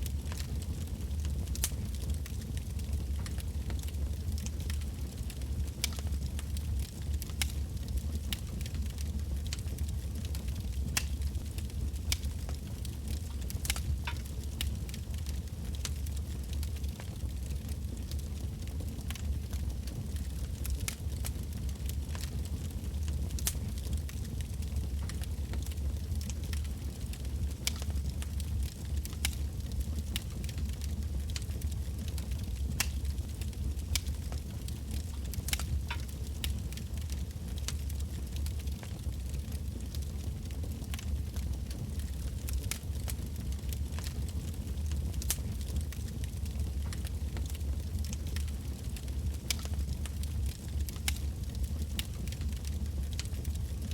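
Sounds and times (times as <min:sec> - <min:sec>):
fire crackles and pops: 0:00.0 - 0:53.9
low fire rumble: 0:00.0 - 0:53.9.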